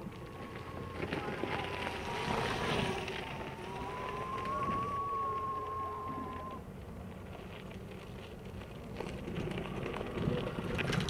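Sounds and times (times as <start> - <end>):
tyres crunching over gravel: 0.0 - 11.0.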